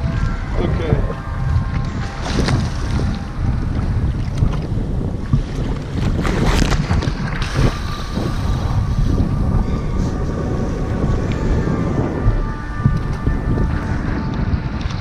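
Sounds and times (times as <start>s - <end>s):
water slapping inflatable boat: 0.0s - 15.0s
wind buffeting microphone: 0.0s - 15.0s.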